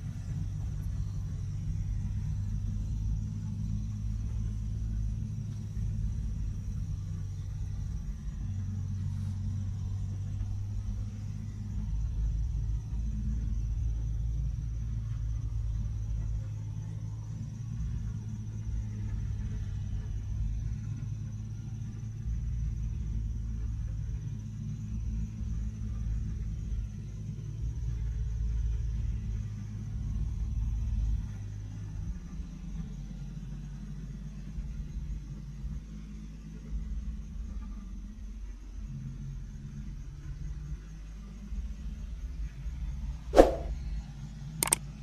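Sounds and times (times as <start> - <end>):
diesel engines rumbling: 0.0 - 45.0.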